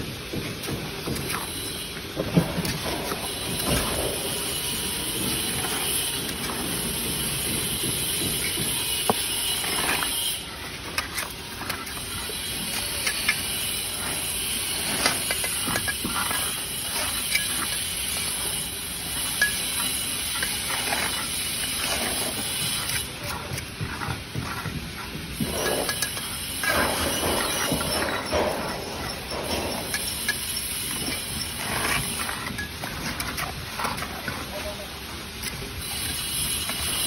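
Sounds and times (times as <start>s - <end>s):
trowel scraping wet mortar: 0.6s - 37.0s.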